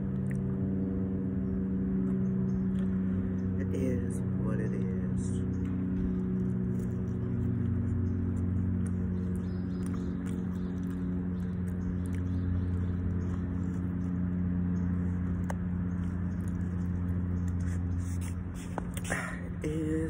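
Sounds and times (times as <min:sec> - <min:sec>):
faint chewing: 0:00.0 - 0:00.7, 0:01.9 - 0:03.6, 0:05.3 - 0:19.8
low mechanical hum: 0:00.0 - 0:20.0.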